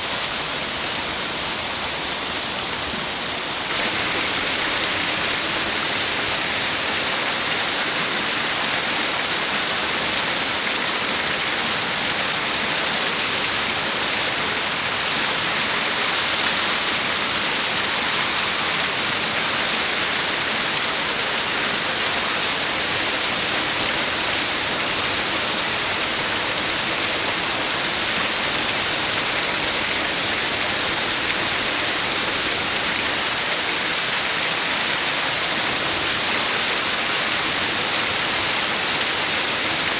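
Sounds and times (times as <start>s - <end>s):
waterfall pouring onto rocks: 3.4s - 39.9s.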